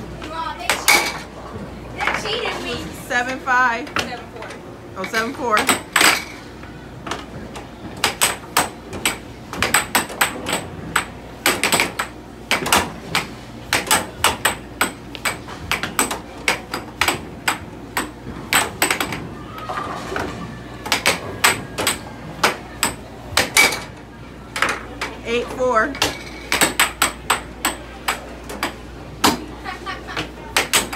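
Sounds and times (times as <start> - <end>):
steady low hum: 0.0 - 30.9
air hockey puck and mallets clacking: 0.2 - 1.3, 3.8 - 30.9.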